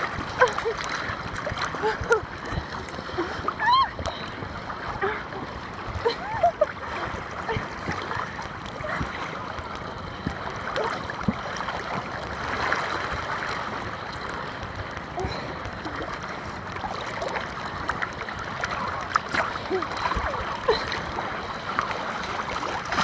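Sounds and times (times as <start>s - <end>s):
river rapid gurgling and splashing: 0.0s - 23.0s.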